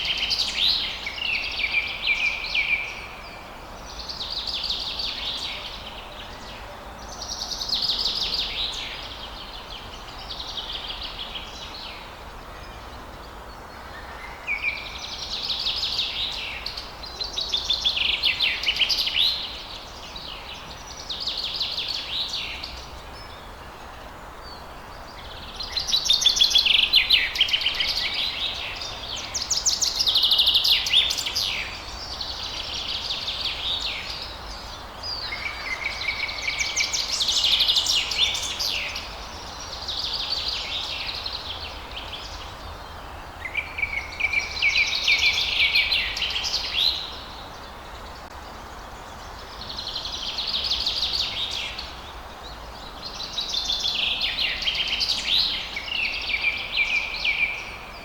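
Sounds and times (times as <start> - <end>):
low background hiss: 0.0 - 58.0.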